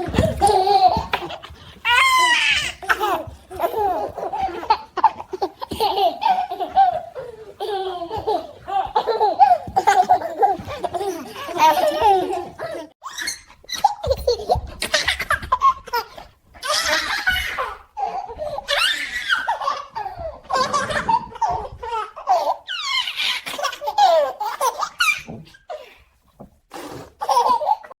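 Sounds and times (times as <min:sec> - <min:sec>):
baby laughing: 0:00.0 - 0:25.4, 0:27.2 - 0:28.0.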